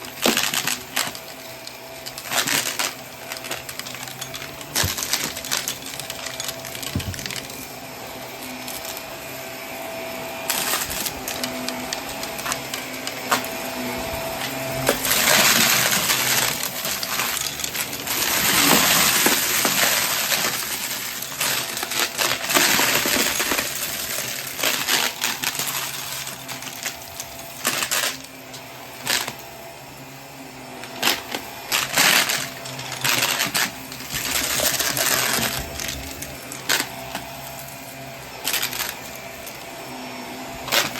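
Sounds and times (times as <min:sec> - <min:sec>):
debris rattling up vacuum hose: 0:00.0 - 0:29.8, 0:30.6 - 0:40.9
vacuum cleaner motor hum: 0:00.0 - 0:40.9.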